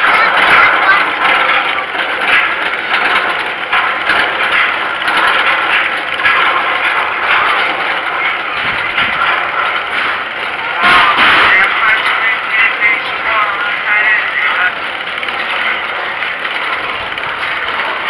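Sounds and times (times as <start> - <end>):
lift chain clatter: 0.0 - 18.0
rapid ratcheting clicks: 0.0 - 18.0.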